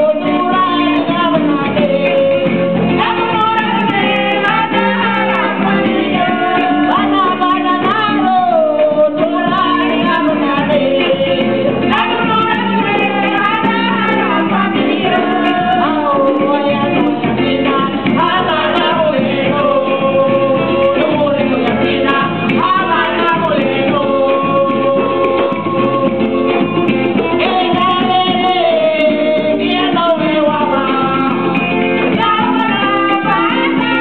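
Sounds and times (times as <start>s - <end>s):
plucked guitar: 0.0s - 34.0s
women singing: 0.0s - 34.0s.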